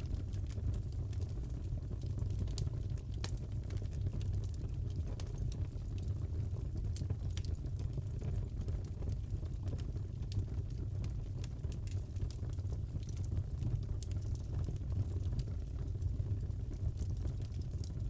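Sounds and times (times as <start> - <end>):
fireplace fire crackling: 0.0 - 18.0.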